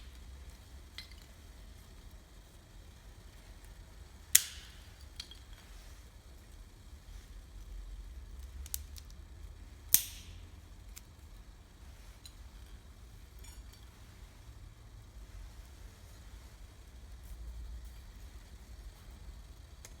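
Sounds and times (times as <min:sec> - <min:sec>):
faint fire crackles: 0:00.0 - 0:20.0.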